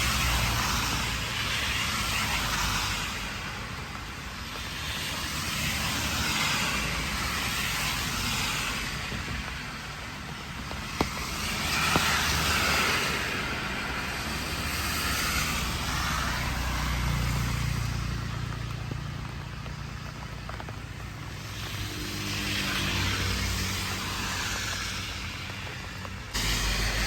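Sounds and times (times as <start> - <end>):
car engine hum: 0.0 - 27.0
road and wind noise: 0.0 - 27.0.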